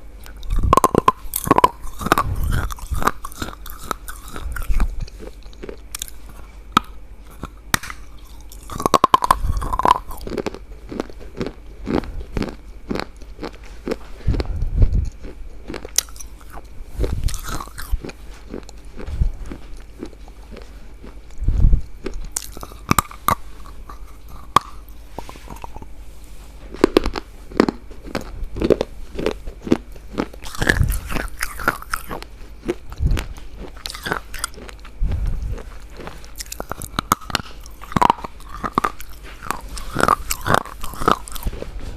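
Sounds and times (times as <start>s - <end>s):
crunching and chewing hard food: 0.0s - 41.9s.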